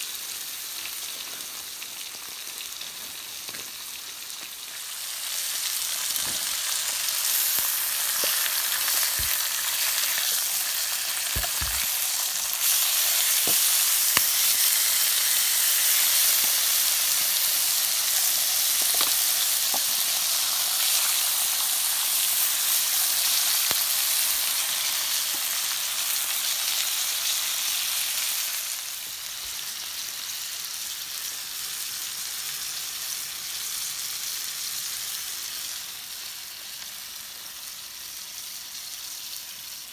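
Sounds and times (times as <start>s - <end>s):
steaks sizzling in a pan: 0.0s - 39.9s.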